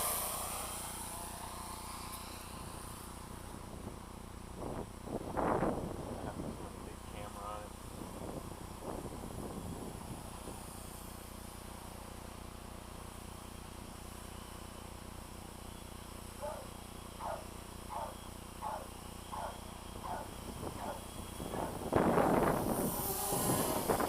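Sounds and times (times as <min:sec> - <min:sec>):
electric motors humming: 0:00.0 - 0:24.0.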